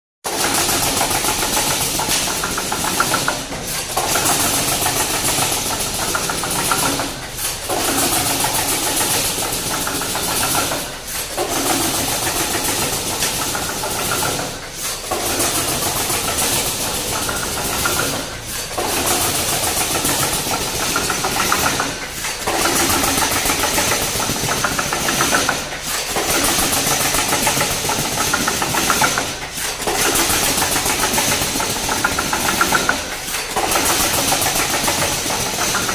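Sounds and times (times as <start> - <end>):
welding machine pulsing: 0.3 - 35.9.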